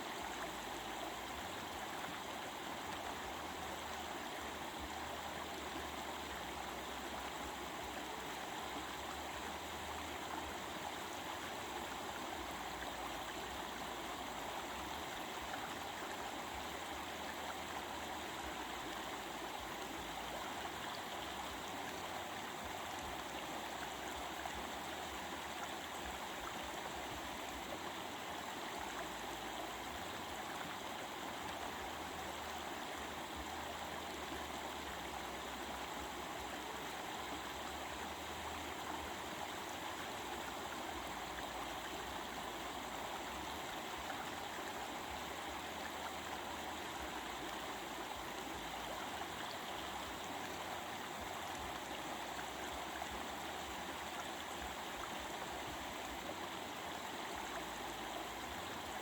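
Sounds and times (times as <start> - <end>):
stream babbling: 0.0 - 59.0.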